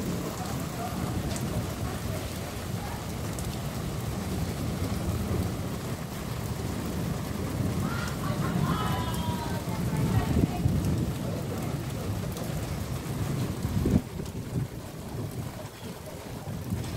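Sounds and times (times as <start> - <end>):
low thunder rumble: 0.0 - 16.9
steady rain: 0.0 - 16.9.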